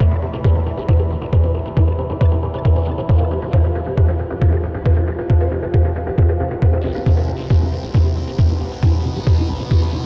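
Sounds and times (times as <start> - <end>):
deep kick drum: 0.0 - 10.0
electronic music: 0.0 - 10.0.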